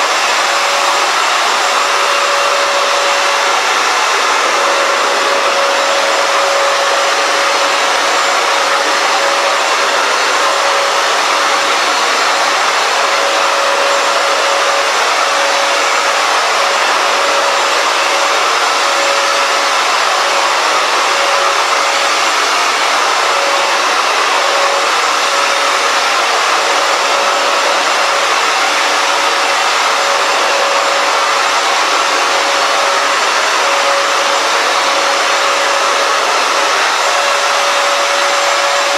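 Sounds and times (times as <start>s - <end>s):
floor cleaner suction motor: 0.0s - 38.9s
motor whine: 0.0s - 38.9s.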